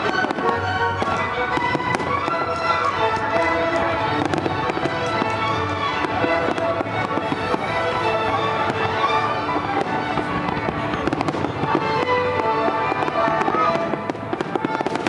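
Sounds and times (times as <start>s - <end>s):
fireworks bangs and crackles: 0.0s - 15.0s
music with held notes: 0.0s - 15.0s.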